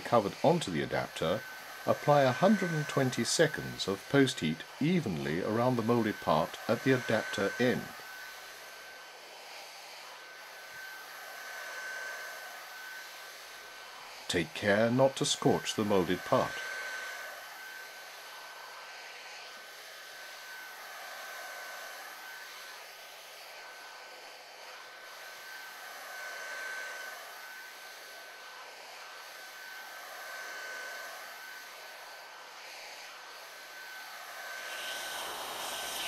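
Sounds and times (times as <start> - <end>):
heat gun blowing and whining: 0.0 - 36.0.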